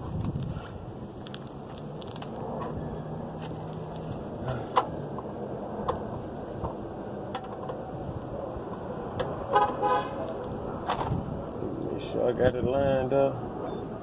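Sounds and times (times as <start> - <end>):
outdoor background hum: 0.0 - 14.0.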